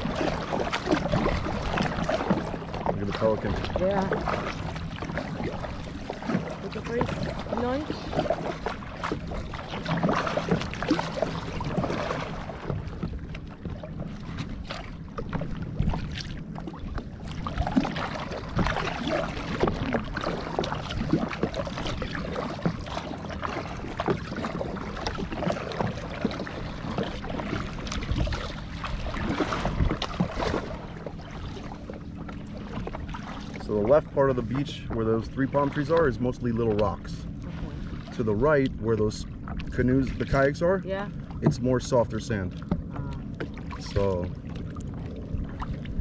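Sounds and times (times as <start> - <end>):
paddle splashing in water: 0.0 - 46.0
water swishing around kayak: 0.0 - 46.0.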